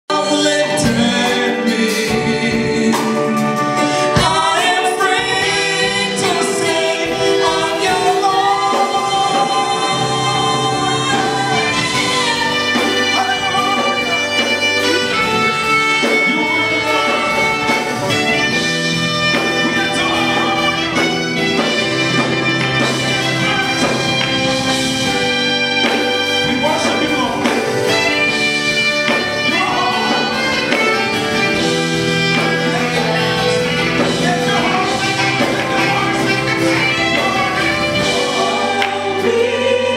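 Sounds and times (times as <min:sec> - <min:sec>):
gospel choir singing: 0:00.1 - 0:39.9
lead vocalists singing into microphones: 0:00.1 - 0:39.9.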